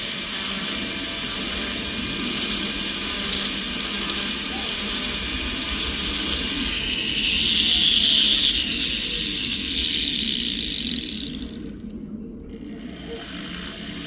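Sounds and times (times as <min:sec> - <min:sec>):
rotary tool grinding metal: 0:00.0 - 0:14.0.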